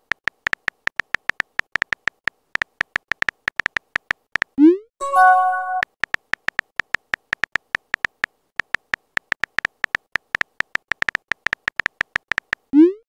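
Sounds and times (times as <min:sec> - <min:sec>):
keyboard tap clicks: 0:00.1 - 0:04.5, 0:05.7 - 0:12.7.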